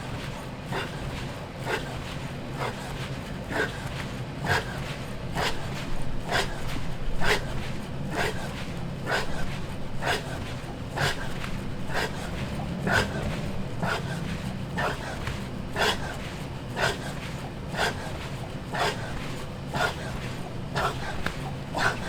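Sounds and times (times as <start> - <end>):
low hum: 0.0 - 22.0
man breathing out hard: 0.0 - 22.0.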